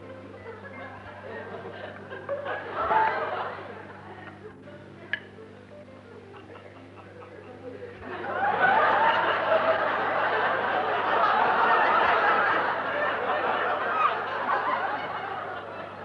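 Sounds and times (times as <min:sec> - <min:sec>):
studio audience laughter: 0:00.0 - 0:04.6, 0:06.2 - 0:16.0.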